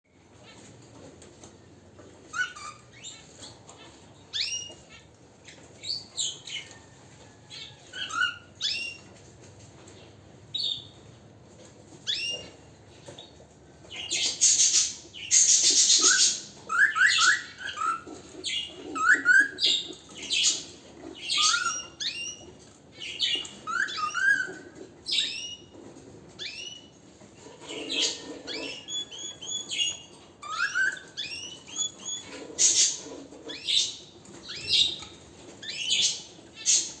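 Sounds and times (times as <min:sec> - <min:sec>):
canary singing: 0:02.0 - 0:09.3, 0:10.5 - 0:11.0, 0:12.0 - 0:37.0.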